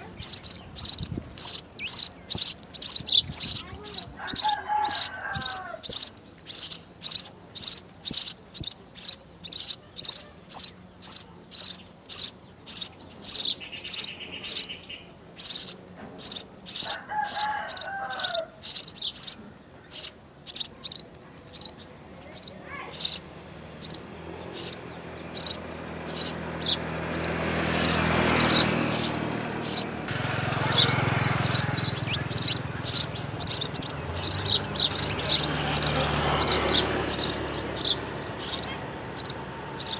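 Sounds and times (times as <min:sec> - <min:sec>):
lower warbled bird calls: 0:00.0 - 0:39.9
sparrows chirping: 0:00.0 - 0:39.9.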